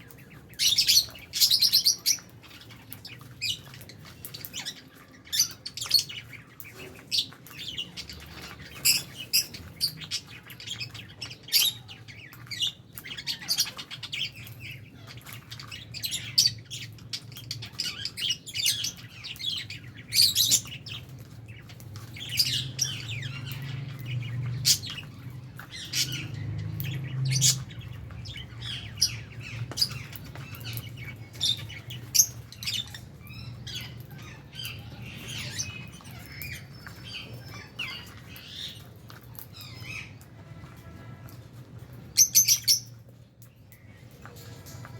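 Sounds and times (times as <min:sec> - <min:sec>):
lovebirds chirping and squawking: 0:00.0 - 0:44.9.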